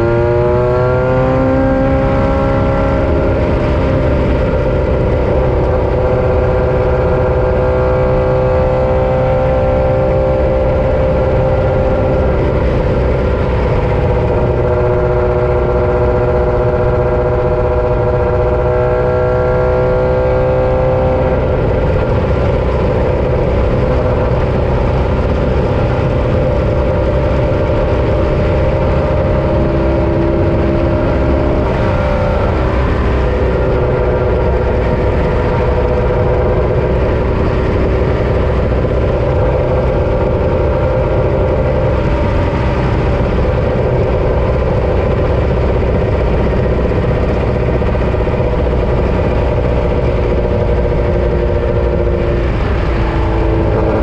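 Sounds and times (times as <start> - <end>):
loud low rumble: 0.0 - 54.0
race vehicle engine running hard: 0.0 - 54.0.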